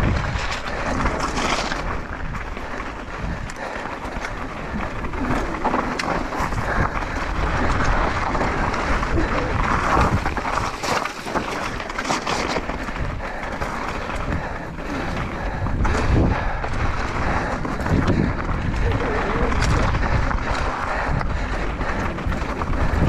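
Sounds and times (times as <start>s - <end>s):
bike frame rattling: 0.0s - 23.0s
tyres crunching over stones: 0.0s - 23.0s
wind buffeting microphone: 0.0s - 23.0s.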